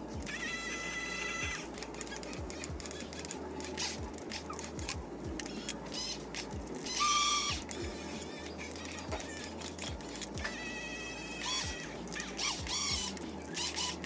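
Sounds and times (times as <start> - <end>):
gears clicking: 0.0 - 14.0
motor whine: 0.0 - 14.0
small electric motors and gearboxes: 0.0 - 14.0.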